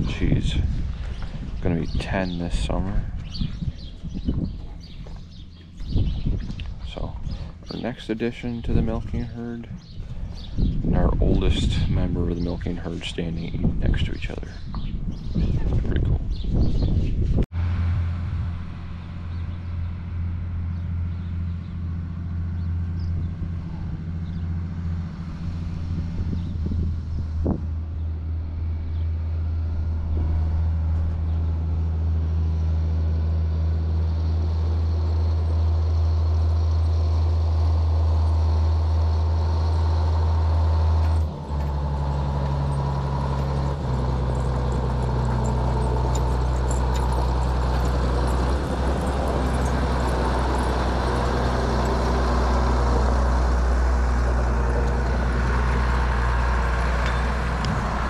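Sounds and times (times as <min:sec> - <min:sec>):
tractor diesel engine running: 0:00.0 - 0:14.8, 0:17.4 - 0:58.0.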